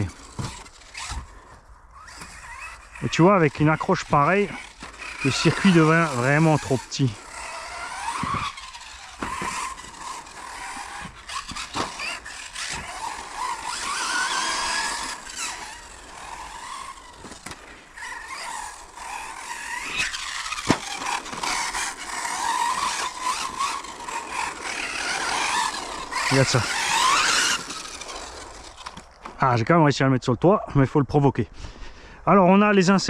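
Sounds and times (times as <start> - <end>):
toy car electric motor whining: 0.0 - 29.4.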